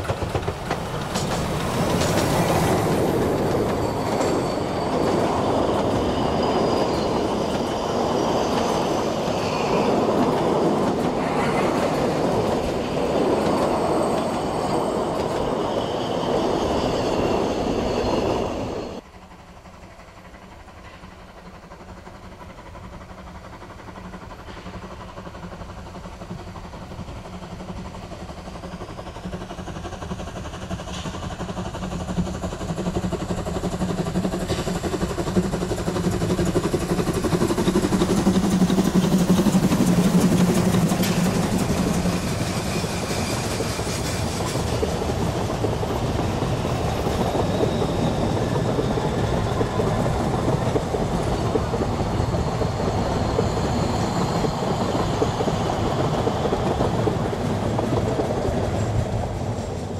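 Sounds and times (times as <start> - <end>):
coaches clickety-clack over rail joints: 0.0 - 59.9
steam locomotive passing: 0.0 - 59.9.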